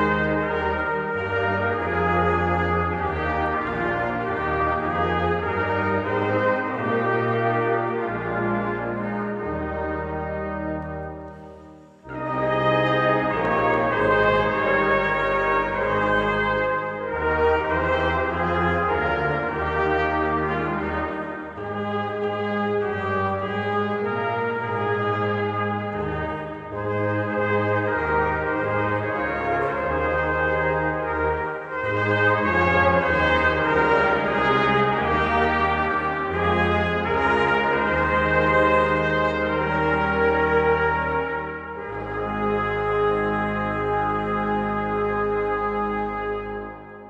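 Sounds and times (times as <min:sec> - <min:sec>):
brass choir playing held chords: 0:00.0 - 0:47.0.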